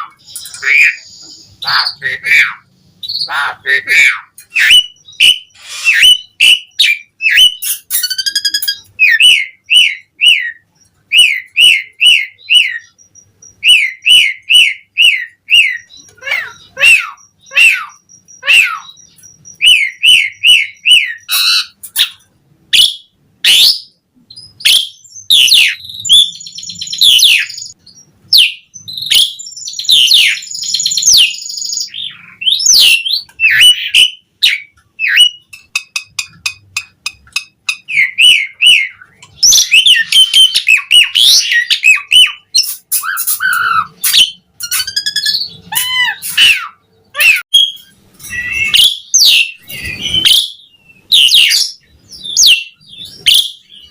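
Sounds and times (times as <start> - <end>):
starling singing: 0.0 - 53.9.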